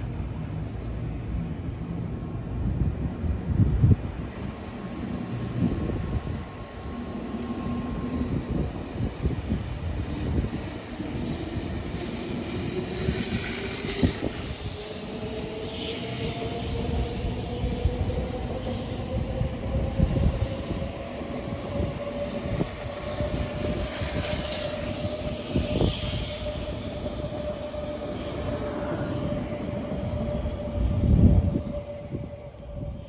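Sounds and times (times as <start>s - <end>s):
train whine: 0.0s - 33.0s.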